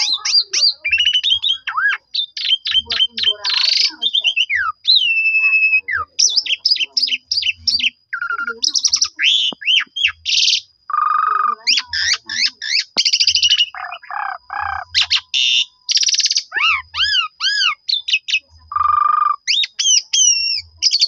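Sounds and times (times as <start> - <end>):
starling singing: 0.0 - 21.0.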